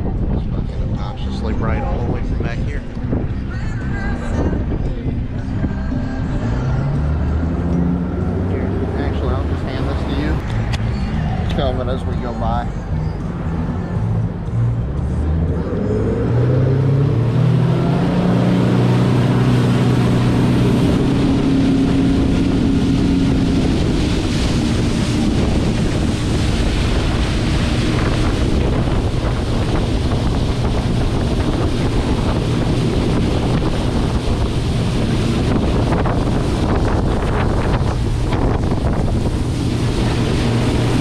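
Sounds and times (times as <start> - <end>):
wind on microphone: 0.0 - 11.9, 15.7 - 41.0
outboard motor running: 0.0 - 13.3, 18.1 - 41.0.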